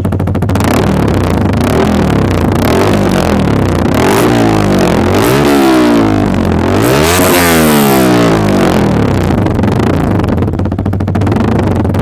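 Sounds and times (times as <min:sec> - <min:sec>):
motorcycle engine idling: 0:00.0 - 0:12.0
motorcycle engine revving: 0:00.0 - 0:12.0.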